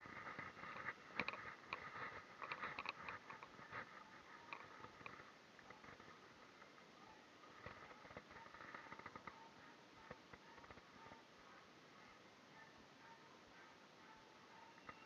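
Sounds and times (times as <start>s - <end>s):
faint mechanical clicks and ticks: 0.0s - 12.8s.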